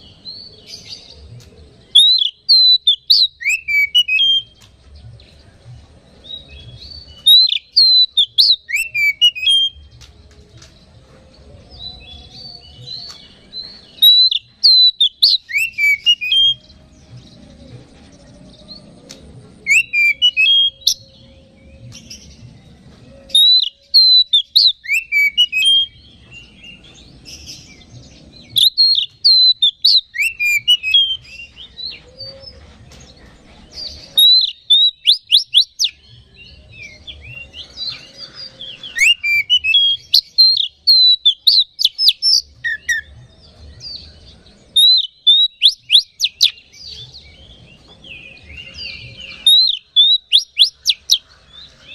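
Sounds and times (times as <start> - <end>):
magpie-robin singing: 0.0 - 5.4, 6.2 - 10.8, 11.6 - 51.9.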